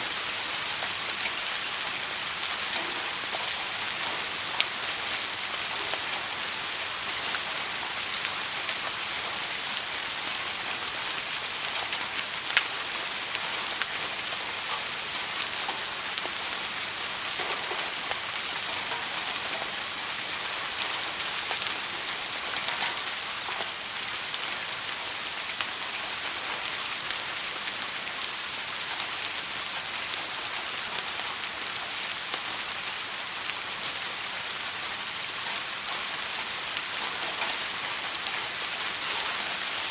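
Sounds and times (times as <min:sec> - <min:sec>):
soft rain: 0:00.0 - 0:39.9.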